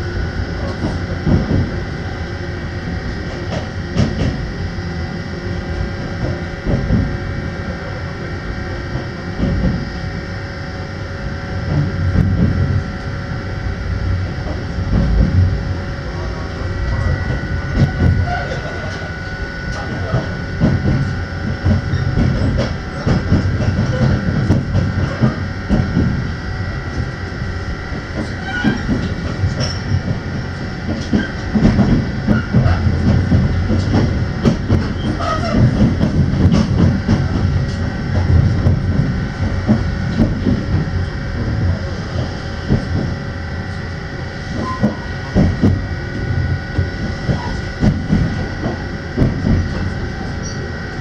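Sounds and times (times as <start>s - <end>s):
train running rumble: 0.0s - 51.0s.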